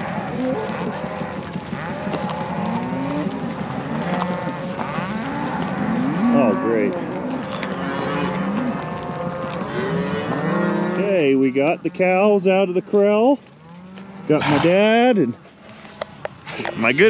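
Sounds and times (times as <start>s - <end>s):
cattle mooing: 0.0s - 12.7s, 13.5s - 16.2s.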